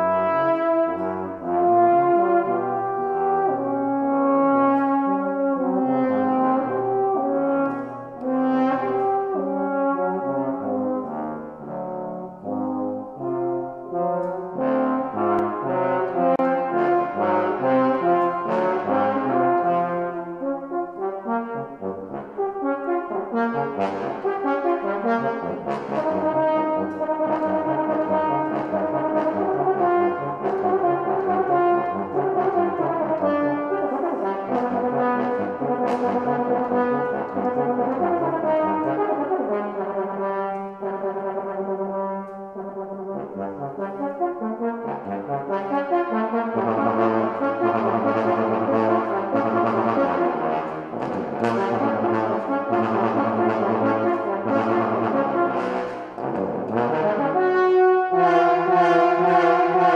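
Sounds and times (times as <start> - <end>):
trombone duet: 0.0 - 59.9.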